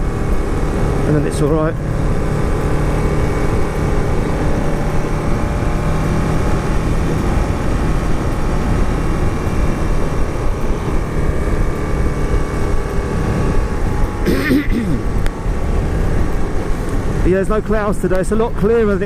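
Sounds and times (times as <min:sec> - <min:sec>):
motorcycle engine cruising: 0:00.0 - 0:19.0
wind rushing over microphone: 0:00.0 - 0:19.0.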